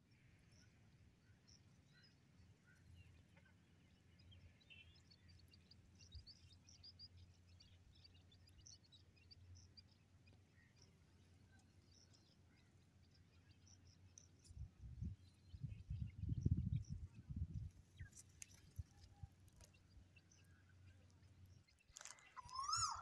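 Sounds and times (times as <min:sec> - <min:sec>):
quail chicks peeping: 0:01.0 - 0:23.0.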